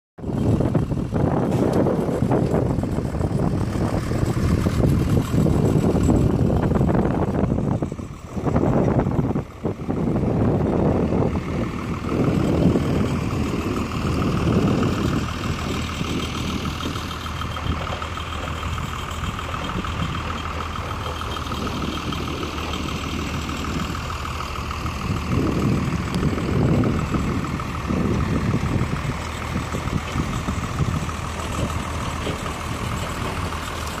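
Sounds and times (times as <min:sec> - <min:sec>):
large engine droning and whining: 0:00.2 - 0:34.0
uneven low rumbling: 0:00.2 - 0:34.0.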